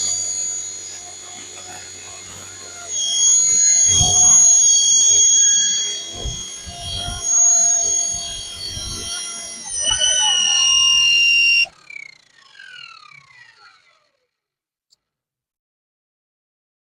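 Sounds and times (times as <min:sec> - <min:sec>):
rotor spinning down whine: 0:00.0 - 0:14.5
rc helicopter motor whining: 0:00.0 - 0:14.6.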